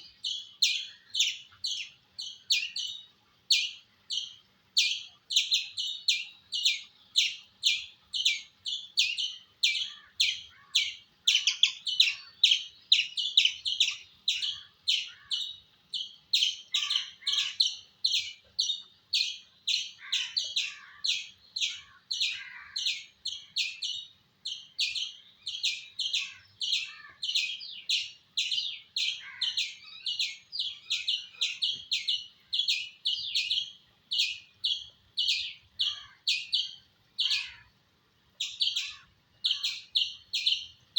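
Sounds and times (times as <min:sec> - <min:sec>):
squirrel chirping: 0:00.0 - 0:37.6, 0:38.4 - 0:40.9.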